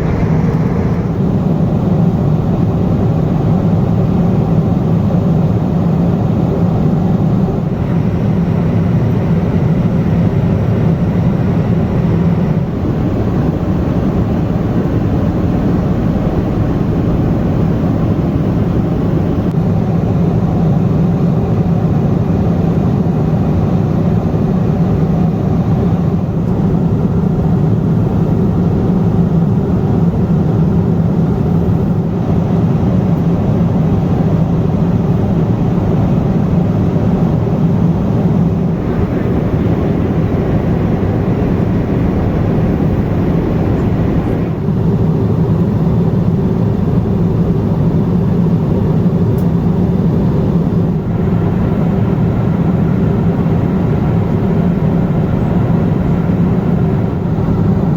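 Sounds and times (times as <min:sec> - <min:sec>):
jet airliner cabin hum: 0:00.0 - 0:57.9.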